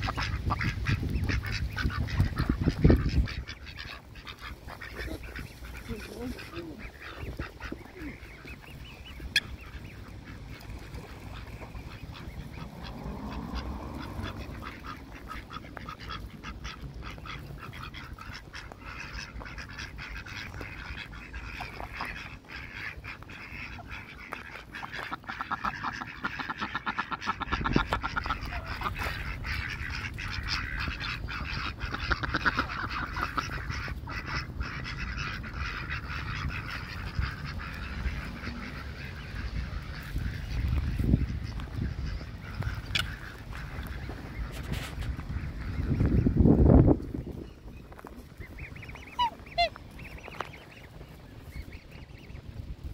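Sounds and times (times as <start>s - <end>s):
ducks quacking: 0.0s - 52.9s.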